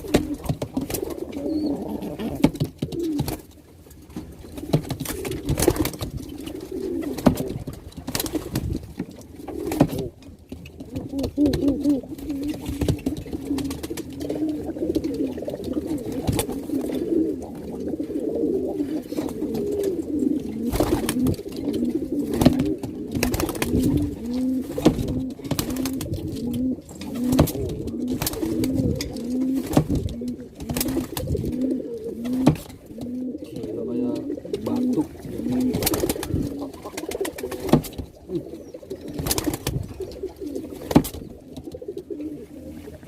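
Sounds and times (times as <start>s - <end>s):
pigeons cooing: 0.0s - 3.6s, 4.3s - 43.0s.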